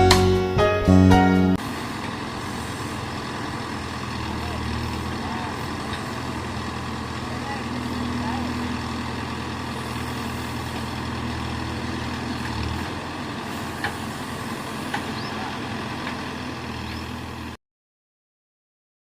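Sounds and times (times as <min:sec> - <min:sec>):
backhoe diesel engine running: 0:00.0 - 0:17.6.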